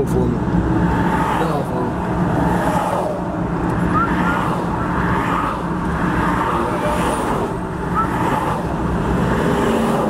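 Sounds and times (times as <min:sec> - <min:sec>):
highway traffic roar: 0:00.0 - 0:10.0.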